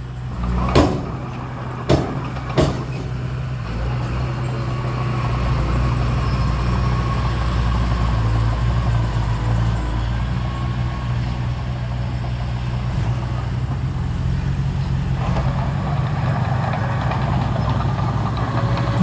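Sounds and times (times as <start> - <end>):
diesel engine running: 0.0 - 19.0
higher rough engine sound: 0.0 - 19.0.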